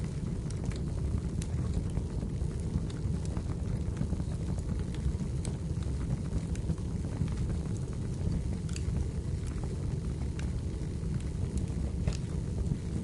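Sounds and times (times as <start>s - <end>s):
burning logs crackling and popping: 0.0s - 13.0s
wood fire rumbling: 0.0s - 13.0s.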